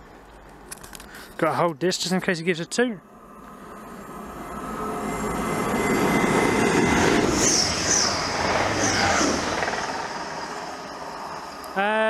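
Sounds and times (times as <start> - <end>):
diesel train passing at speed: 0.0 - 12.0.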